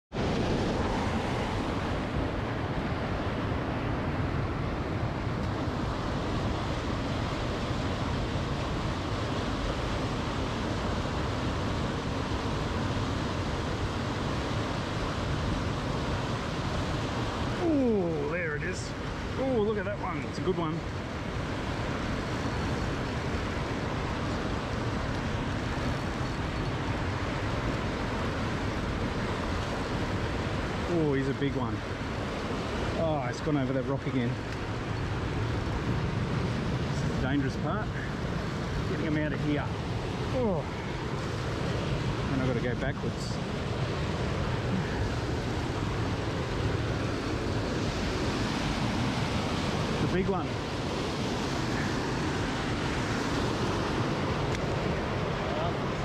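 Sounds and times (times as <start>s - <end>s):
river water rushing: 0.1s - 56.0s.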